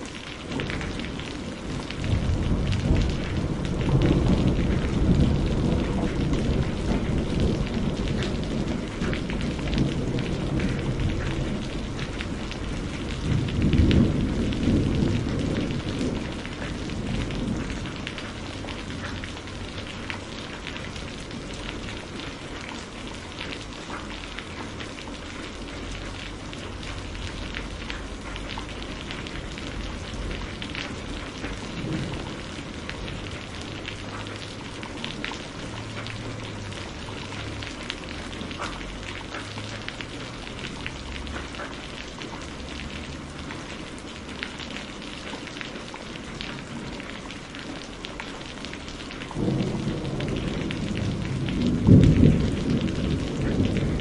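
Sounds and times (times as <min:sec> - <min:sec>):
steady rain falling: 0:00.0 - 0:54.0
distant thunder rumbling: 0:00.4 - 0:44.3, 0:44.9 - 0:54.0.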